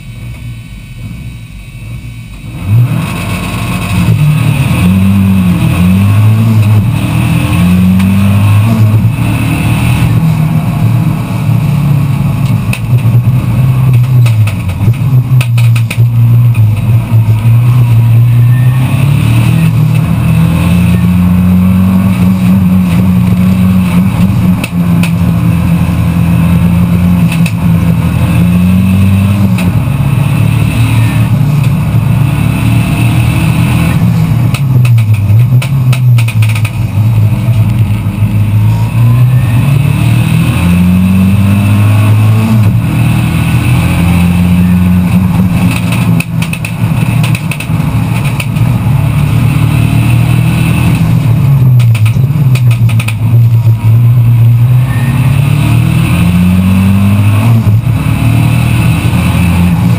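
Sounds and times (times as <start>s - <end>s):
car engine revving hard: 2.4s - 59.9s.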